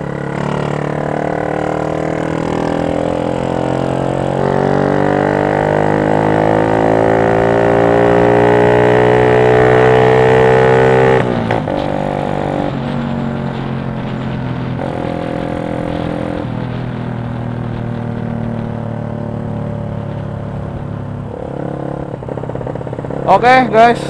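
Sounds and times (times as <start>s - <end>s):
motorcycle engine droning: 0.0s - 24.0s.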